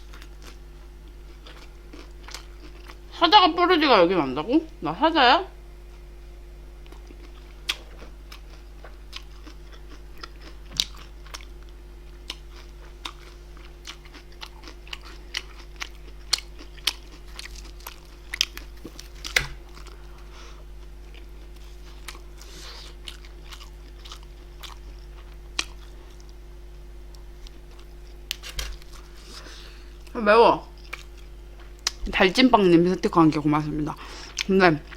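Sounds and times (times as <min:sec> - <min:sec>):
person chewing crunchy food: 0:00.0 - 0:03.1, 0:06.8 - 0:32.0.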